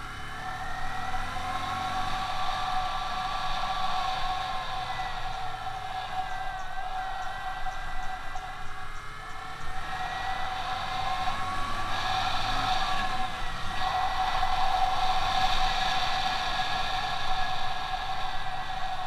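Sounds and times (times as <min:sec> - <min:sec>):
motorcycle engine running: 0:00.0 - 0:19.0
steady whine: 0:00.0 - 0:19.0.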